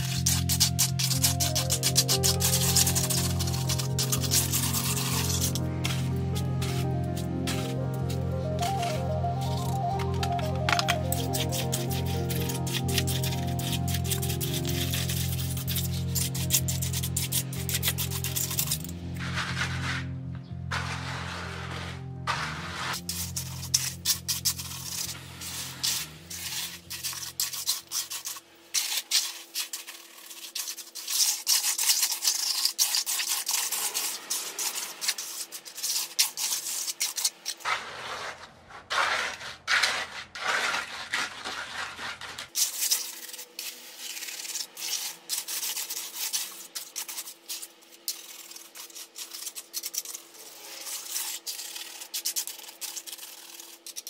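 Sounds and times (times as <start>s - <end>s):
trowel scraping wet mortar: 0.0s - 54.0s.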